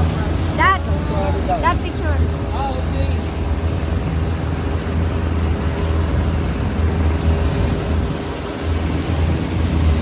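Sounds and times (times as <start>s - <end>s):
motorboat engine droning: 0.0s - 10.0s.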